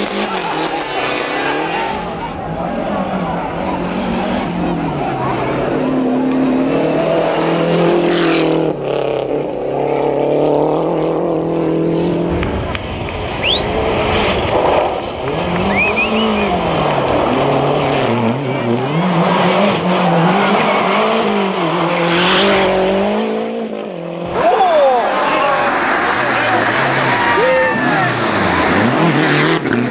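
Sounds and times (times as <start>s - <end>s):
gravel and tyre noise: 0.0s - 29.9s
rally car engine revving: 0.0s - 29.9s.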